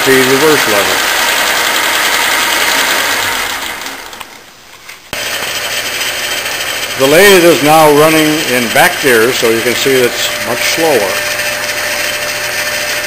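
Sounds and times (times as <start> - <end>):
lathe whirring and rattling: 0.0 - 13.0.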